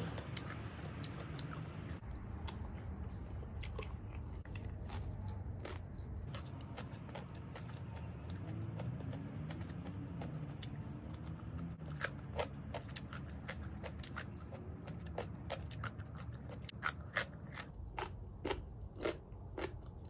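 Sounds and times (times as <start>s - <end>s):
crunching raw vegetables: 0.0s - 20.0s
low steady rumble: 0.0s - 20.0s.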